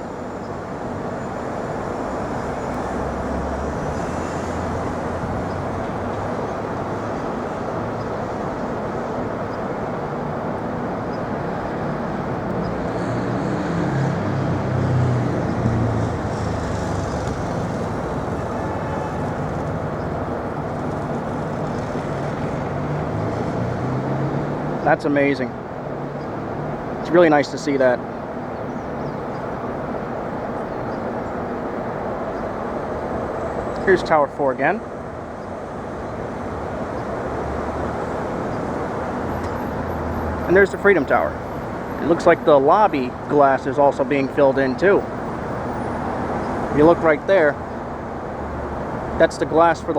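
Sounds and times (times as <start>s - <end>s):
vehicles running past: 0.0s - 49.9s.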